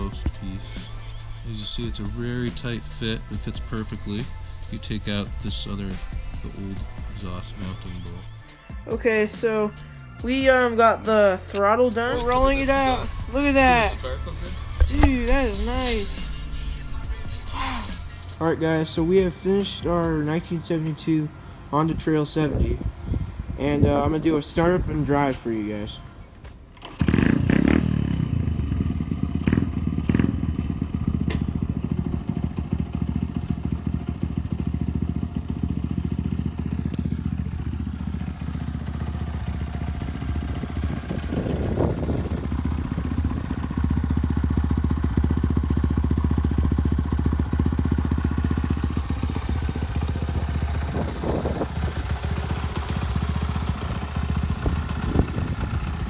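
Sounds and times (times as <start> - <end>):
small motorcycle engine idling: 0.0 - 56.0.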